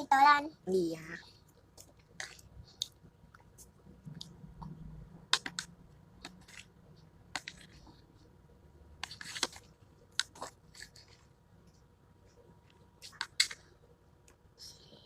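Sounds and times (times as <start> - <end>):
person chewing porridge: 1.2 - 15.0.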